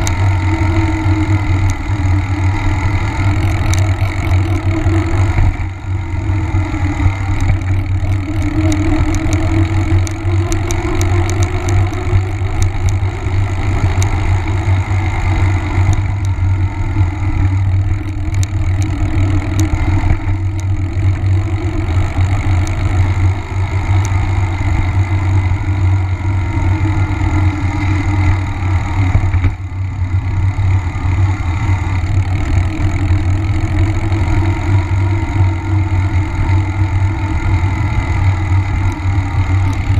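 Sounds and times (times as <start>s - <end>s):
bike tyre rolling on pavement: 0.0s - 39.9s
wind rumble on microphone: 0.0s - 39.9s.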